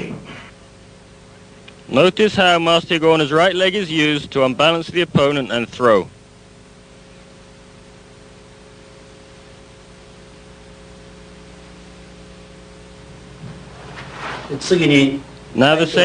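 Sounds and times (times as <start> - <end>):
background hiss: 0.0 - 16.0
low hum: 0.0 - 16.0.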